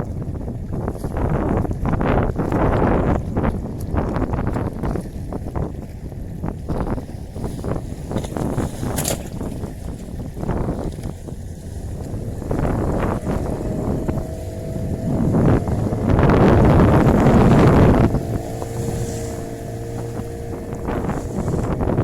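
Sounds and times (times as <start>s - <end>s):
boat motor running: 0.0s - 22.0s
rush of wind or water: 0.0s - 22.0s
wind buffeting microphone: 0.0s - 22.0s.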